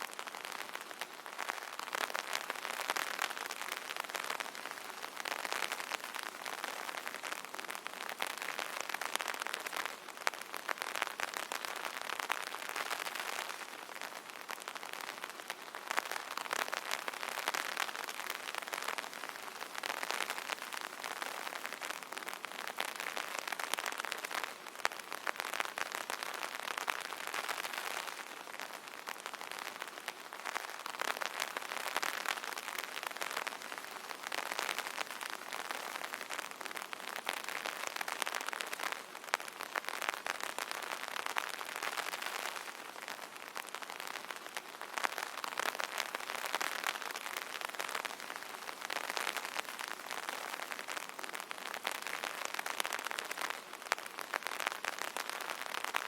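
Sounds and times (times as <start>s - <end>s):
rain pattering on an umbrella: 0.0s - 56.0s.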